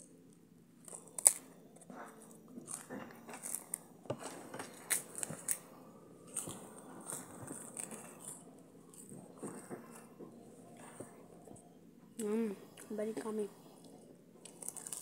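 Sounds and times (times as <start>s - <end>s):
crunchy chewing of grain cake: 0.0s - 15.0s.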